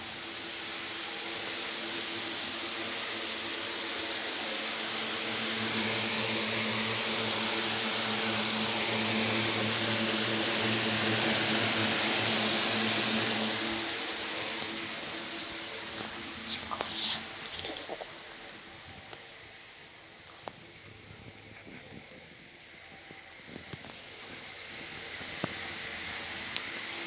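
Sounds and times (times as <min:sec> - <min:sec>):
mechanical hum with hiss: 0:00.0 - 0:27.0.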